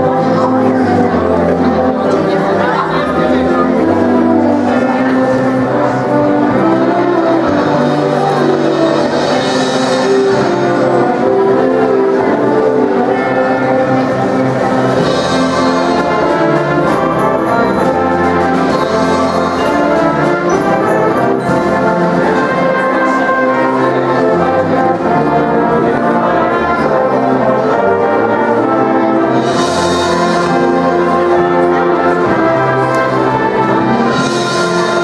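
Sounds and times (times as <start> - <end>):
symphonic band playing: 0.0 - 35.0.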